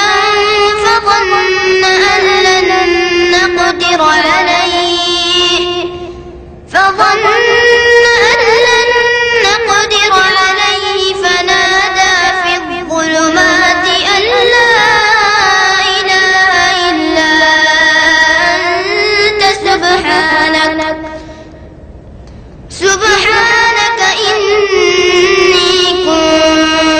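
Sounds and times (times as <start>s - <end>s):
child reciting melodically: 0.0s - 21.4s, 22.7s - 26.9s.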